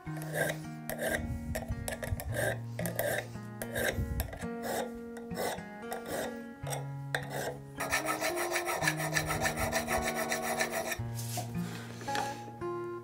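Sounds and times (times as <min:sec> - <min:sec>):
file rasping on metal: 0:00.1 - 0:01.3, 0:01.9 - 0:11.5.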